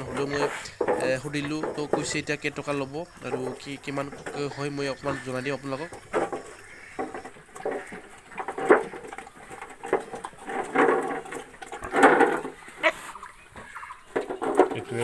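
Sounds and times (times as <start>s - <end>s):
pigs grunting: 0.0s - 13.8s.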